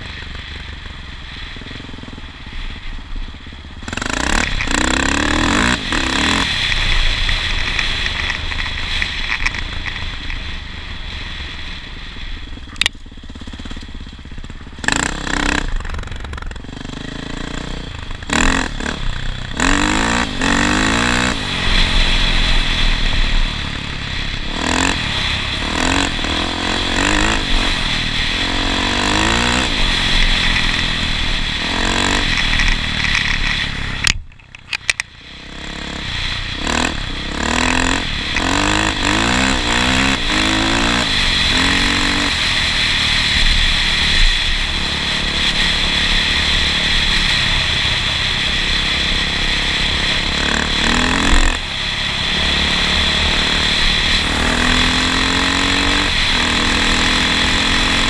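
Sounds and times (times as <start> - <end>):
vehicle engine accelerating: 0.0 - 58.0.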